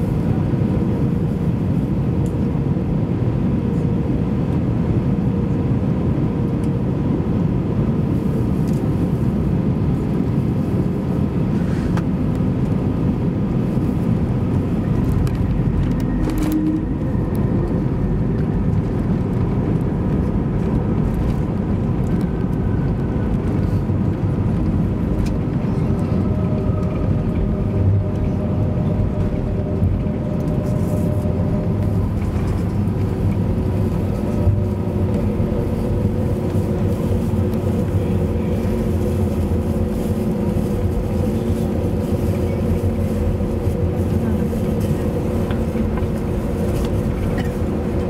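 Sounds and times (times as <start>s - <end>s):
aircraft cabin low rumble: 0.0s - 48.0s.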